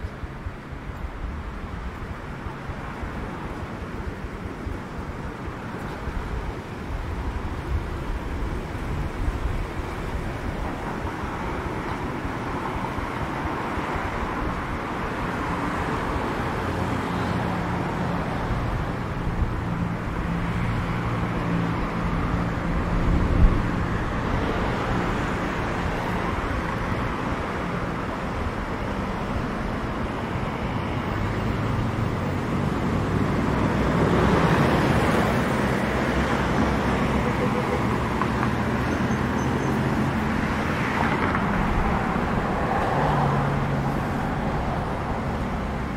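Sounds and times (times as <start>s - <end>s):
traffic engine hum: 0.0s - 45.9s.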